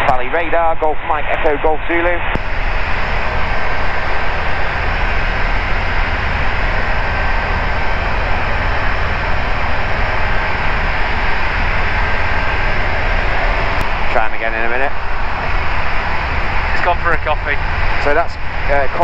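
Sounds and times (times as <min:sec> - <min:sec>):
light aircraft engine and propeller: 0:02.3 - 0:19.0
rushing airflow: 0:02.4 - 0:19.0.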